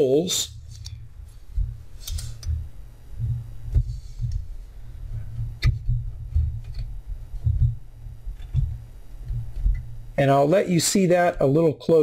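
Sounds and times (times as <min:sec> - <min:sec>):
dull low thuds: 0:00.5 - 0:10.2.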